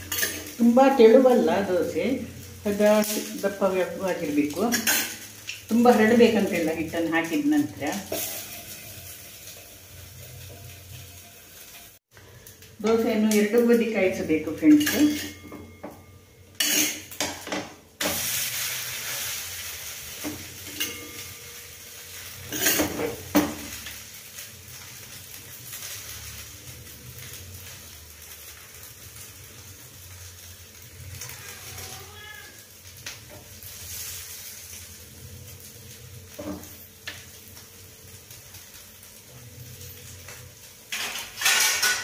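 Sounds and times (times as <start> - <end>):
food sizzling on a hot griddle: 0.0 - 42.0.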